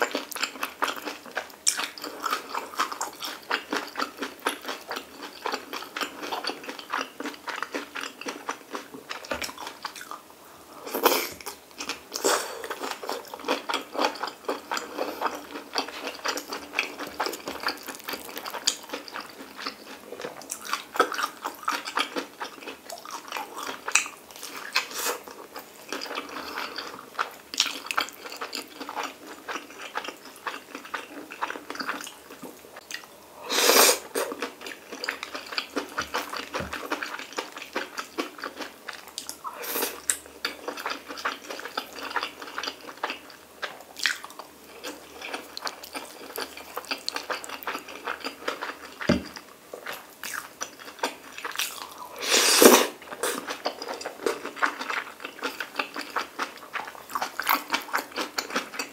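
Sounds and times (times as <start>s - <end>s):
close chewing and biting: 0.0s - 10.2s, 11.0s - 33.0s, 34.1s - 52.2s, 53.0s - 58.9s.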